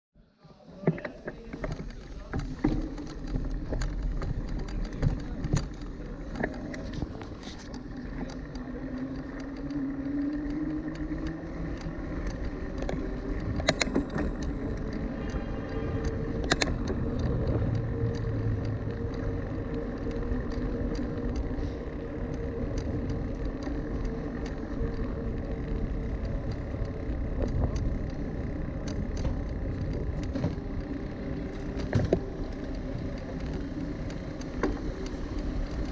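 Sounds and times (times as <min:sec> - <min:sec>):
faint whine: 0:00.2 - 0:35.9
bicycle tyre rumble on road: 0:01.1 - 0:35.9
bicycle rattling clicks: 0:01.3 - 0:35.9.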